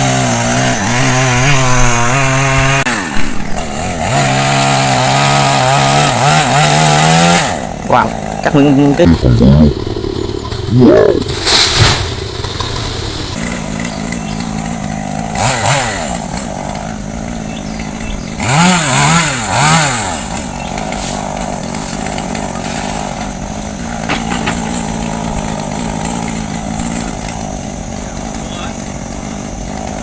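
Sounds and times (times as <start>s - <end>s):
chainsaw idling and revving: 0.0s - 10.7s, 13.3s - 30.0s.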